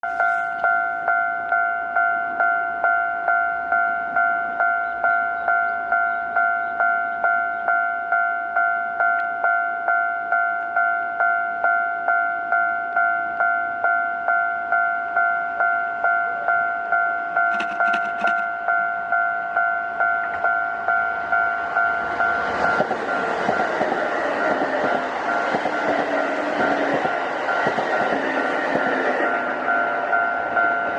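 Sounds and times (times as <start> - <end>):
level crossing warning bell: 0.0 - 30.9
passing train running noise: 0.0 - 30.9.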